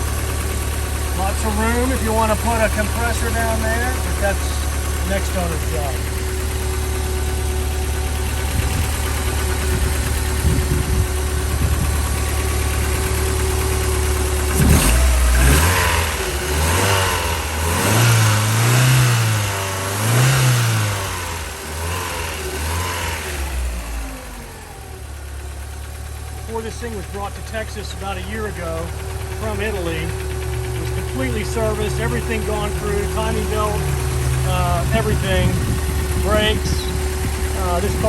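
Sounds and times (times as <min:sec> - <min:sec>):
engine idling and revving: 0:00.0 - 0:38.0.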